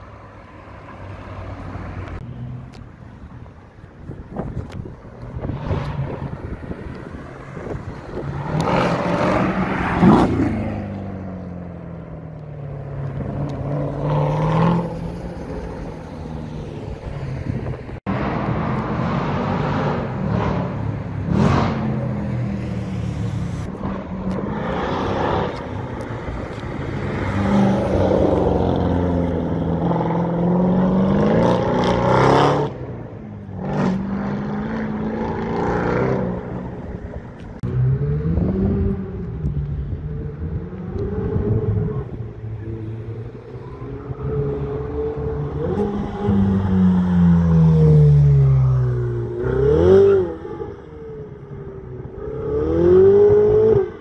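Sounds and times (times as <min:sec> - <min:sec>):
car engines accelerating hard: 0:04.0 - 0:54.0.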